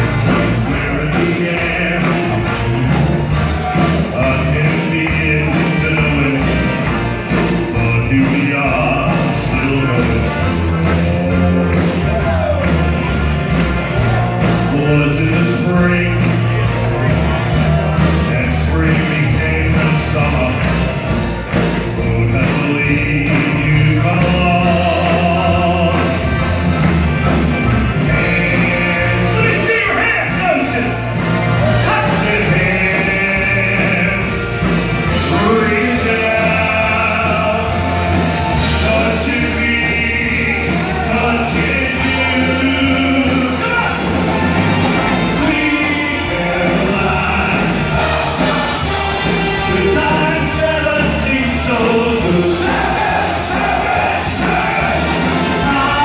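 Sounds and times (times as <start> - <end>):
person singing: 0.0 - 26.8, 27.8 - 56.0
live rock and roll band: 0.0 - 56.0.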